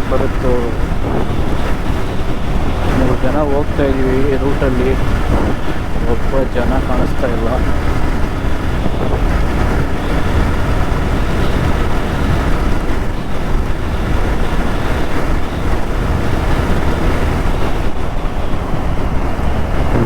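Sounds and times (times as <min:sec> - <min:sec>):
motorcycle engine: 0:00.0 - 0:20.0
road rumble: 0:00.0 - 0:20.0
wind rushing over microphone: 0:00.0 - 0:20.0.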